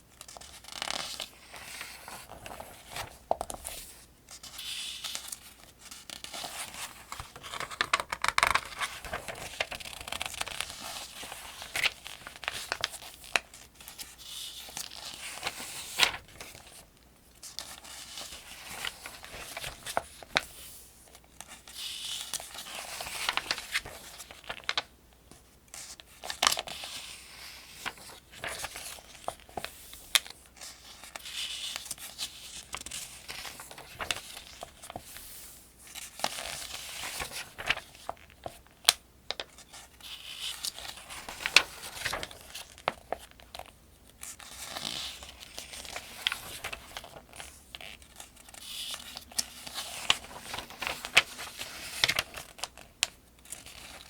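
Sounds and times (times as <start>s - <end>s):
book pages turning: 0.2s - 16.8s, 17.4s - 43.7s, 44.3s - 54.0s.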